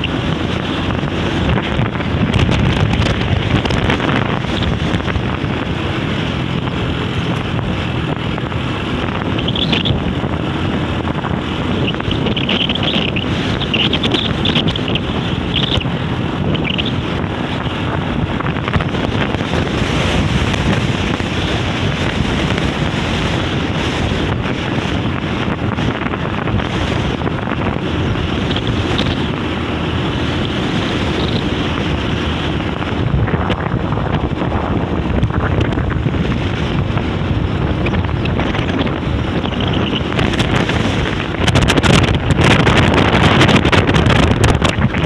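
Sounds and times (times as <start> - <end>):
wind blasting across microphone: 0.0 - 45.0.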